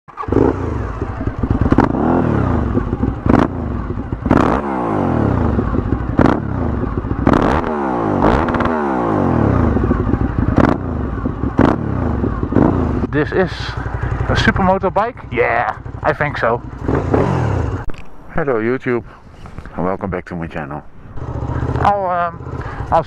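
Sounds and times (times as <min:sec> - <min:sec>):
motorcycle engine revving: 0:00.1 - 0:17.9, 0:21.1 - 0:23.0.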